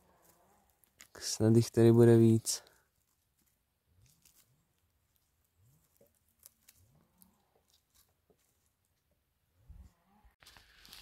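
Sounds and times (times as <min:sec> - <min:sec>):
hand brushing dry needles and twigs: 0:00.0 - 0:09.1, 0:10.4 - 0:11.0.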